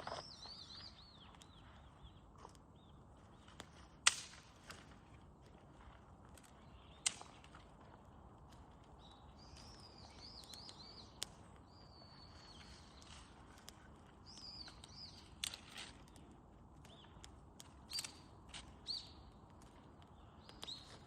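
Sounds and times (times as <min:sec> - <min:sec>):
bonfire crackling and popping: 0:00.0 - 0:21.0.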